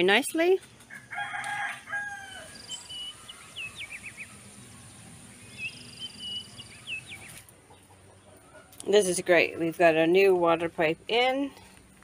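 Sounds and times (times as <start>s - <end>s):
small birds chirping and singing: 0.8s - 12.0s.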